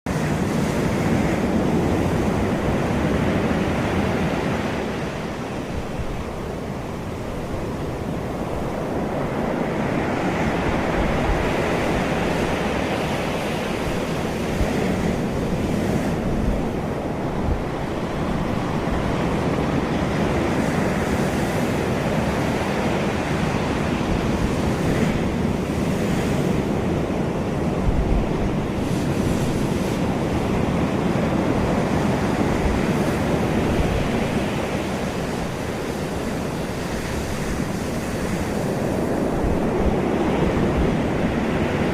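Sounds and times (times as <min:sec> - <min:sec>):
wind rumbling on microphone: 0:00.1 - 0:41.9.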